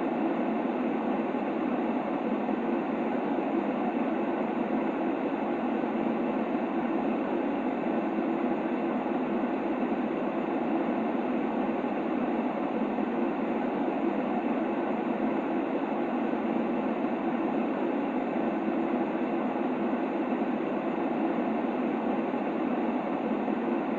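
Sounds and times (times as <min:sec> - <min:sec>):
muffled white noise: 0:00.0 - 0:23.9.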